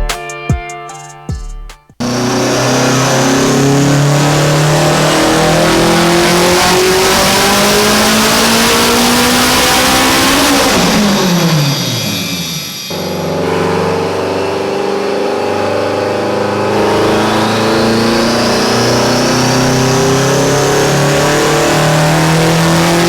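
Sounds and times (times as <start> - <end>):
car engine revving under load: 2.0 - 23.0.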